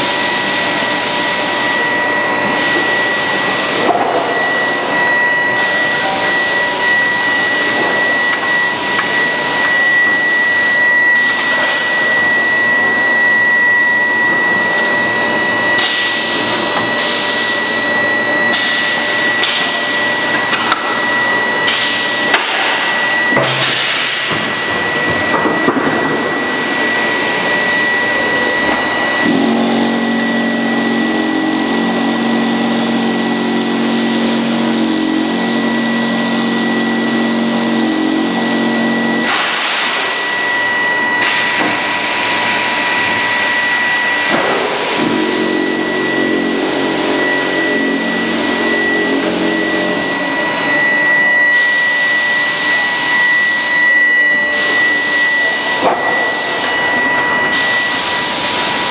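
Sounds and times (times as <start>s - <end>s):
factory machinery din: 0.0s - 58.9s.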